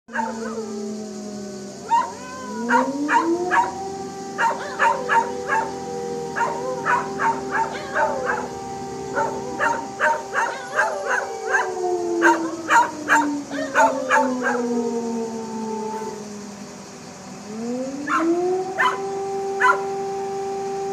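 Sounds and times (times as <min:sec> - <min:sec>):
dogs howling and barking: 0:00.1 - 0:20.9
siren wailing: 0:00.1 - 0:20.9.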